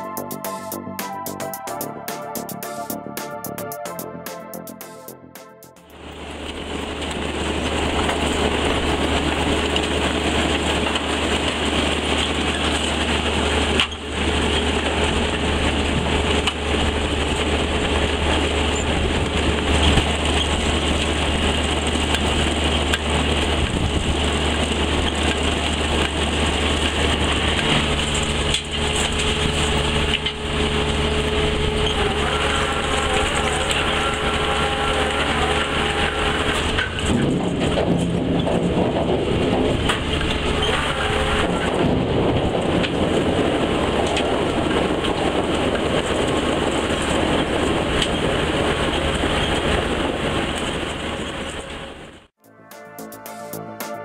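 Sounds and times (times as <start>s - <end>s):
steady engine tones: 0.0s - 52.4s
tractor engine drone: 0.0s - 52.6s
harvester machinery clatter: 5.9s - 52.2s.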